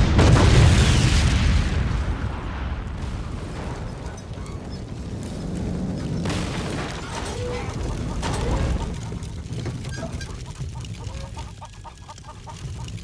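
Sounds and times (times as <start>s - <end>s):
explosion boom and rumble: 0.0s - 13.0s.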